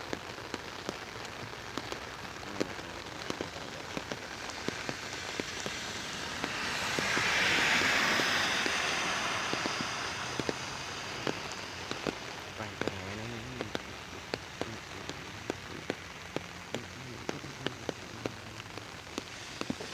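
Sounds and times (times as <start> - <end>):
rain on an umbrella: 0.0 - 19.9.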